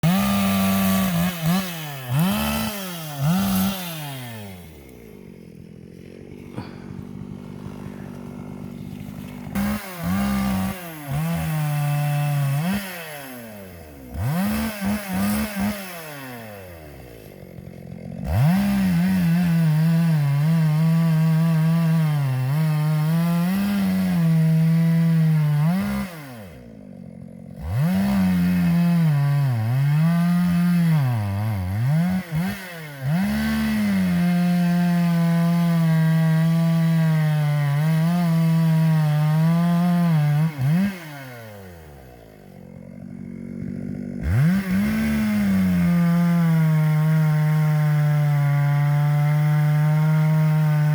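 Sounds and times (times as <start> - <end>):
chainsaw cutting wood: 0.0 - 50.9
chainsaw revving: 0.0 - 50.9.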